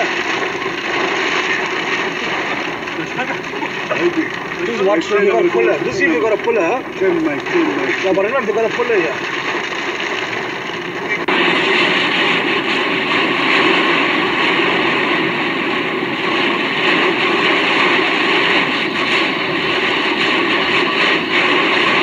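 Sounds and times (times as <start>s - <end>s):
heavy rain on car roof: 0.0s - 22.0s.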